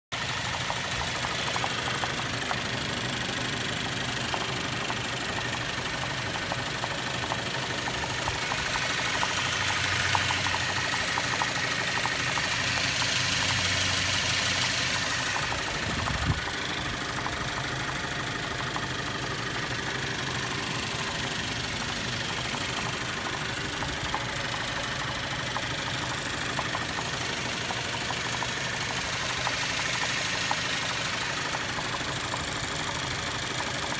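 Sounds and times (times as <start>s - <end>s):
engine idling with knock: 0.1s - 33.9s.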